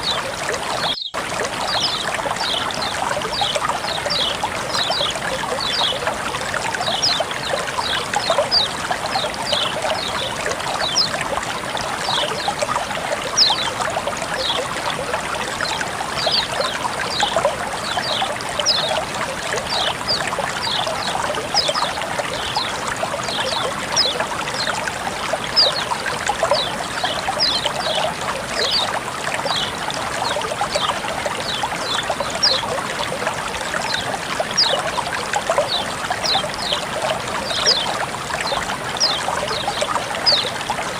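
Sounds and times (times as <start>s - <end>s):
water flowing and trickling: 0.0s - 40.9s.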